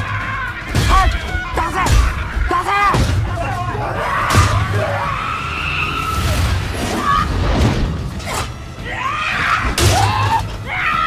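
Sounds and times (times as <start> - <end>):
people yelling and shouting: 0.0 - 11.0.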